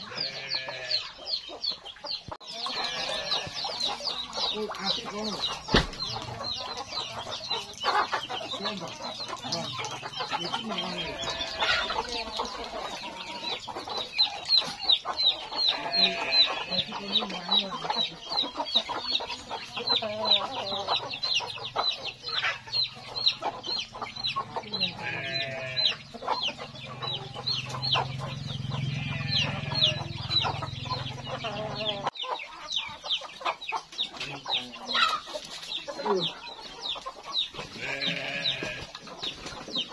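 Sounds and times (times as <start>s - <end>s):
chick peeping: 0.0s - 39.9s
chickens clucking: 0.0s - 39.9s.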